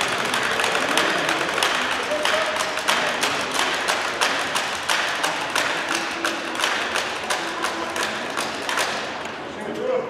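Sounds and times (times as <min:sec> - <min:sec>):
spectators clapping in time: 0:00.0 - 0:09.4.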